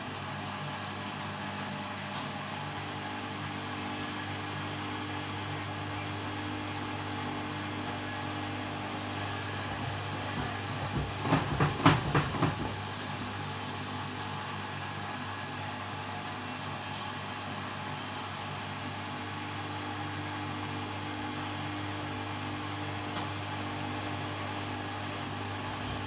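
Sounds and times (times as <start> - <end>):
washing machine motor hum: 0.0 - 26.0.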